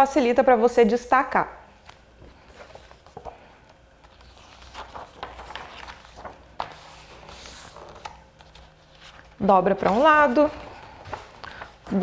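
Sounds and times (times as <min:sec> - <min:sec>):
paper rustling and crackling: 0:01.8 - 0:12.0.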